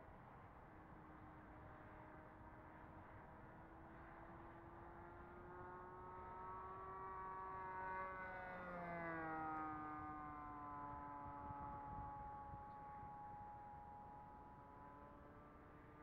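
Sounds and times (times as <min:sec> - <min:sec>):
model airplane engine buzzing: 0:01.2 - 0:16.0.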